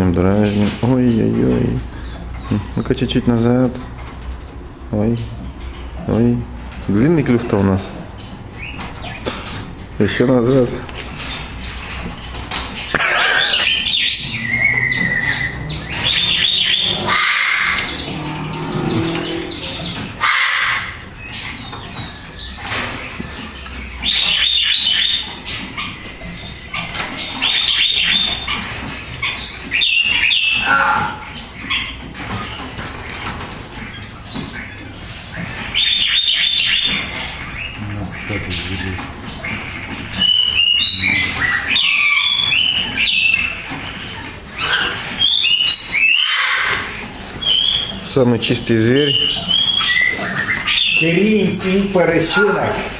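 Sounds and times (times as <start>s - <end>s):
bird high harsh calls: 7.9s - 52.9s.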